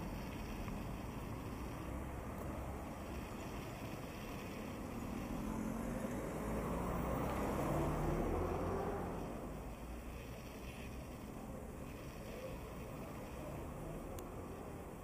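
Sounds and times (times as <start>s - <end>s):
passing vehicle engine: 0.0s - 15.0s
street traffic noise: 0.0s - 15.0s.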